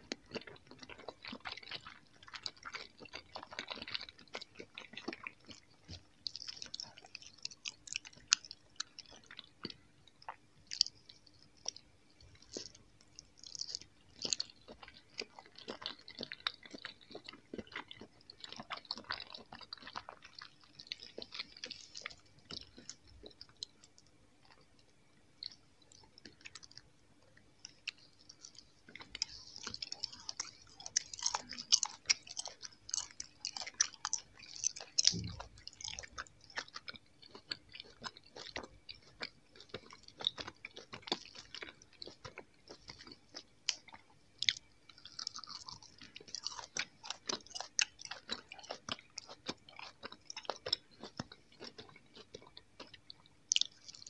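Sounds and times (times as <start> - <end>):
wet sticky chewing: 0.0 - 54.0
crackly handling of candy: 0.1 - 54.0.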